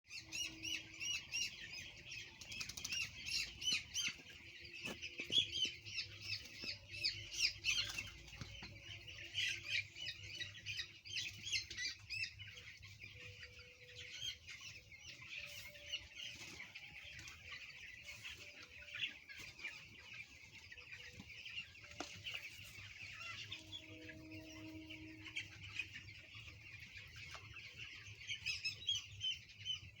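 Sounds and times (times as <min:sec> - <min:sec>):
chicks peeping: 0:00.1 - 0:30.0.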